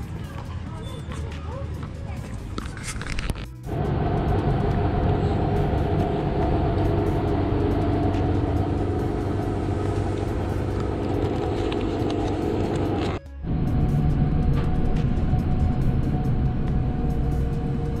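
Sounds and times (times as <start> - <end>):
engine rumble: 3.4 - 18.0.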